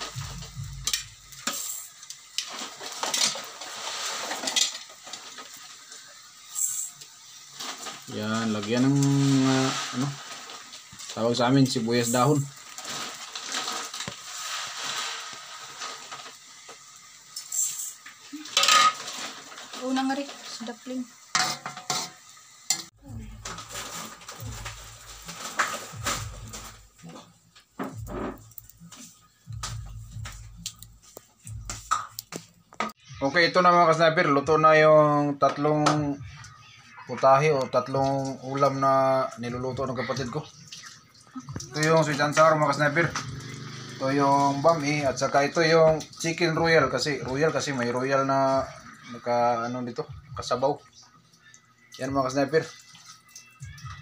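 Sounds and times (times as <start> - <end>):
light sizzle: 0.0 - 54.0.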